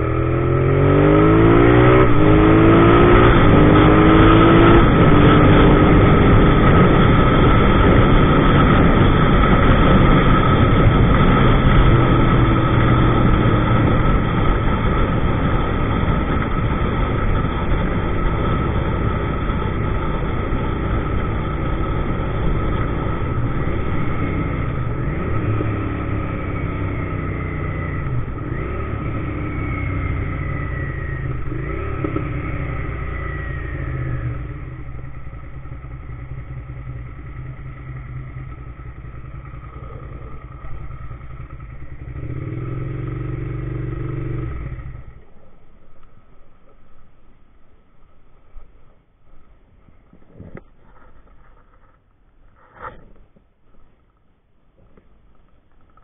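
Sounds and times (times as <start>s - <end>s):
motorcycle engine running: 0.0s - 54.0s
road and wind noise: 0.0s - 56.0s.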